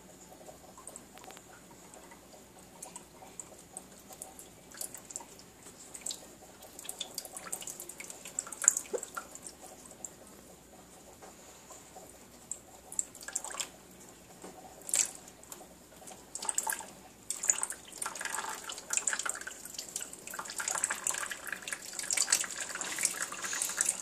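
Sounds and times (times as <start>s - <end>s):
cat lapping water: 0.4s - 24.0s.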